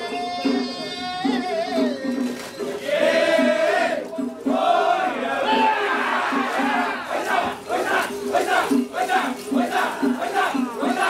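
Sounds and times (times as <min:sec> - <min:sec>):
steady beat: 0:00.1 - 0:11.0.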